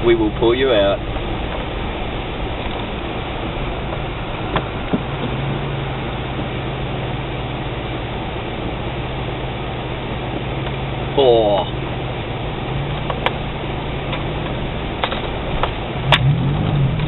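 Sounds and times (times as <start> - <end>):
car engine and cabin hum: 0.0 - 17.0.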